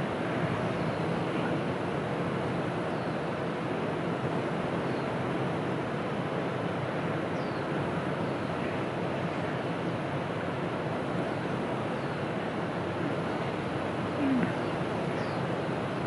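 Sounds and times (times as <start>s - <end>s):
steady rushing outdoor noise: 0.0s - 16.0s.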